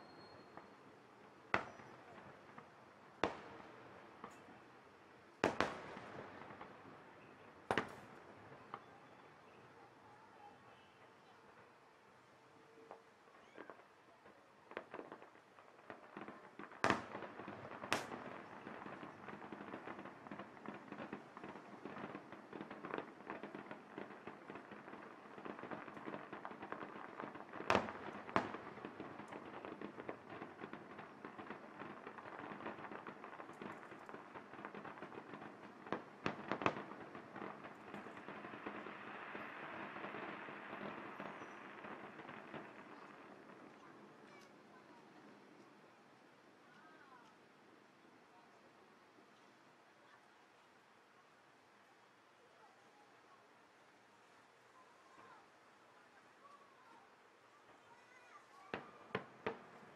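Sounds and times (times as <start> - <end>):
fireworks crackling: 0.0 - 10.8, 12.8 - 47.6, 55.0 - 59.9.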